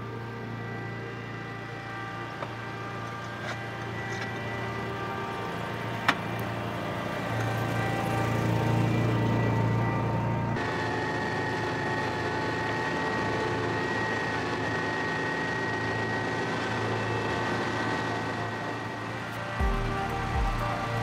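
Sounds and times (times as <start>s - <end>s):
tracked carrier engine whining: 0.0s - 21.0s.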